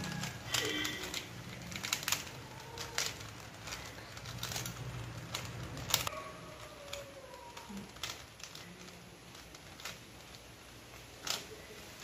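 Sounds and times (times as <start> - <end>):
puzzle cube clicking: 0.0 - 11.9.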